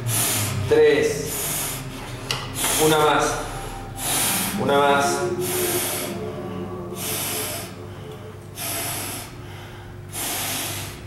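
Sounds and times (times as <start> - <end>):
man breathing hard: 0.0 - 0.6, 1.2 - 11.0.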